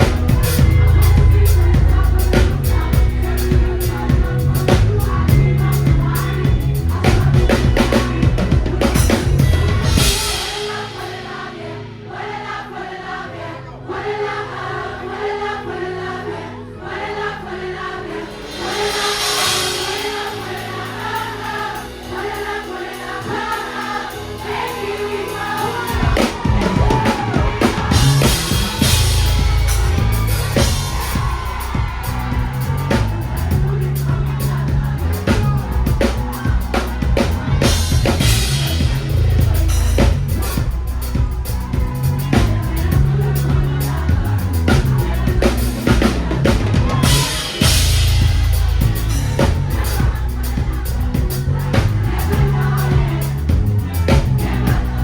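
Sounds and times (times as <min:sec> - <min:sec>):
drum kit: 0:00.0 - 0:11.4, 0:18.4 - 0:55.0
heavy bass line: 0:00.0 - 0:11.9, 0:18.2 - 0:55.0
choir singing: 0:00.0 - 0:55.0.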